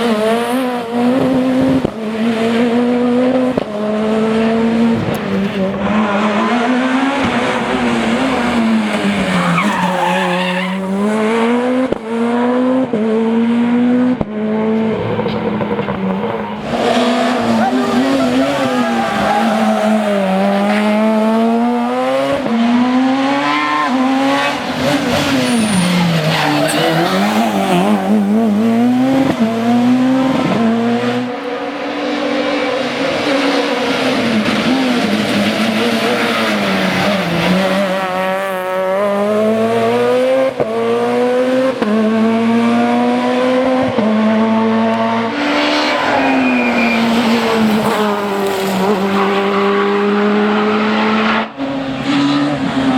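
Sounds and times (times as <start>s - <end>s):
rally car engine revving: 0.0s - 52.9s.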